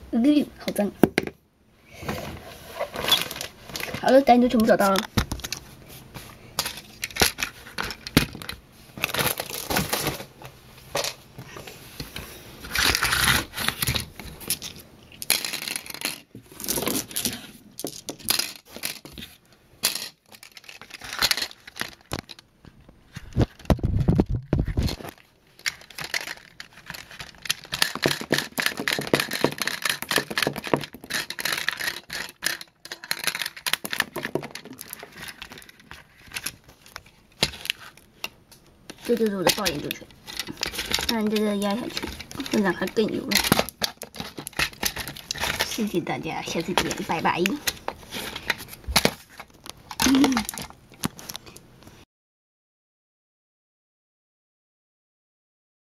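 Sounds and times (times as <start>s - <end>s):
plastic toy rustling and clicking: 2.6s - 51.7s.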